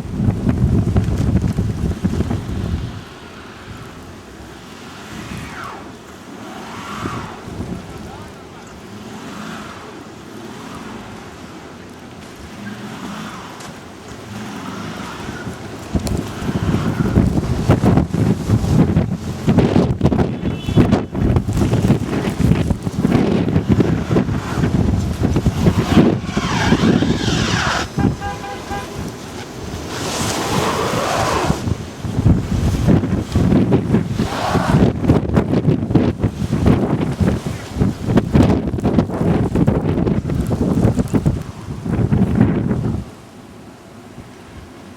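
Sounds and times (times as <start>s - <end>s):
wind buffeting microphone: 0.0s - 6.0s, 6.6s - 8.9s, 14.2s - 43.2s
car moving through snow: 0.1s - 43.2s.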